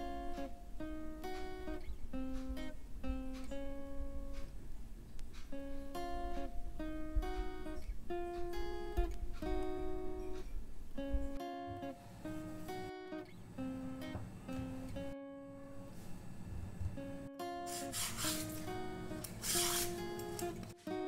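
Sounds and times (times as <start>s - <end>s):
acoustic guitar melody: 0.0s - 21.0s.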